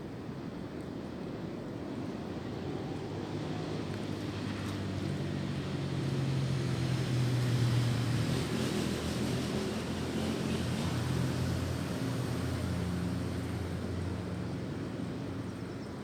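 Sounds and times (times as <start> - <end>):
low engine hum: 1.6 - 16.0.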